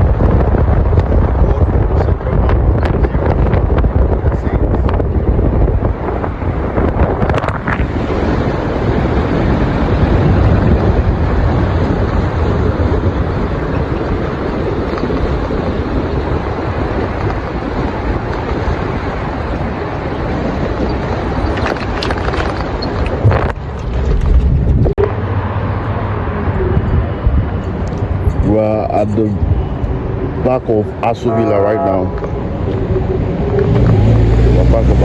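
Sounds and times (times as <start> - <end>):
vehicle and road noise: 0.0 - 35.0
wind buffeting microphone: 0.0 - 35.0.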